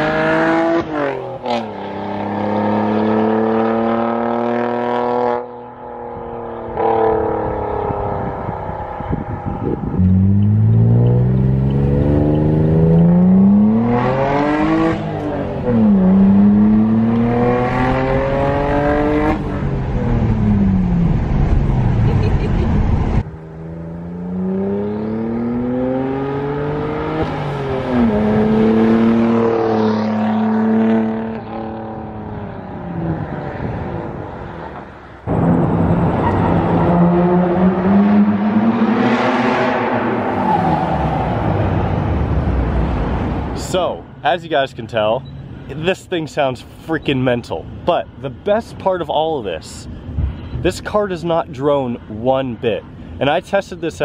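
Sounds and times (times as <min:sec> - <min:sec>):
car engine revving and accelerating: 0:00.0 - 0:43.6.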